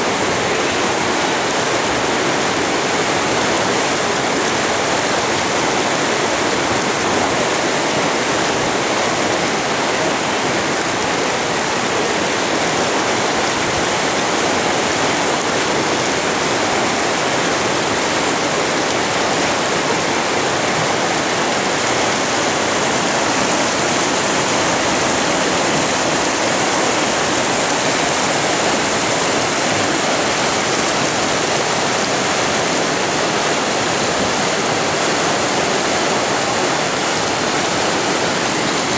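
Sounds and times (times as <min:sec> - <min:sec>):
whitewater rushing and churning: 0:00.0 - 0:38.9.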